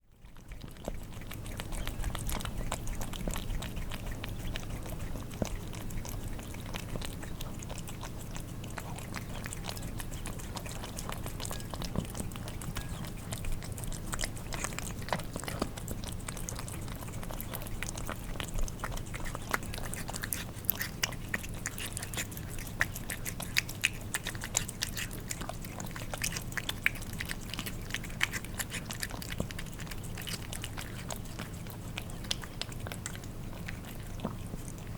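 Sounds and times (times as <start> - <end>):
cats chewing wet food: 0.0 - 34.9
low steady hum: 0.0 - 34.9.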